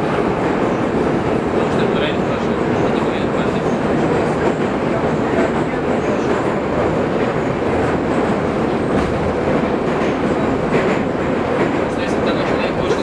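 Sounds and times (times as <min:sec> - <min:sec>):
metro train running inside carriage: 0:00.0 - 0:13.0.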